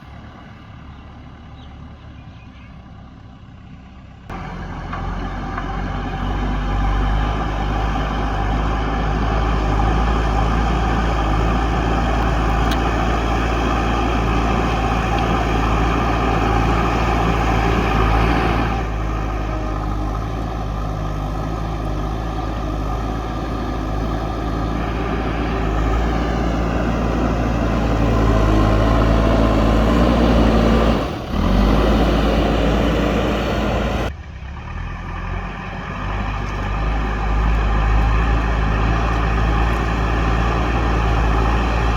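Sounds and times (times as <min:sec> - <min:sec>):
diesel engine revving under load: 0:04.2 - 0:41.9.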